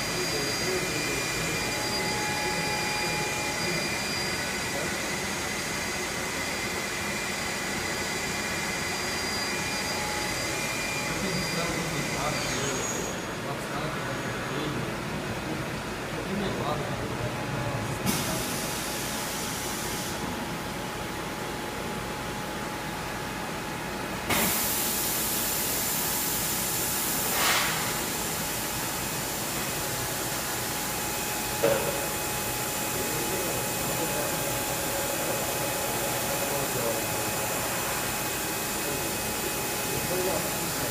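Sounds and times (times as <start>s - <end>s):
cnc machine running: 0.0s - 27.2s, 27.9s - 40.9s
high-pitched machine whine: 0.0s - 40.9s.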